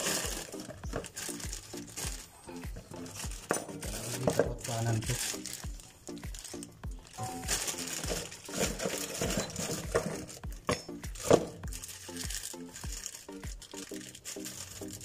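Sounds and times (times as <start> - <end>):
background music with steady beat: 0.0 - 15.0
plastic bag crinkling: 0.0 - 15.0.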